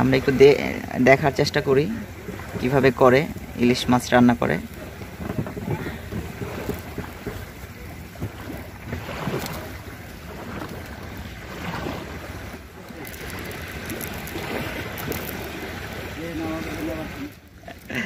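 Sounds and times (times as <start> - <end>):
water lapping against boats: 0.0 - 18.0
wind buffeting microphone: 0.0 - 18.0.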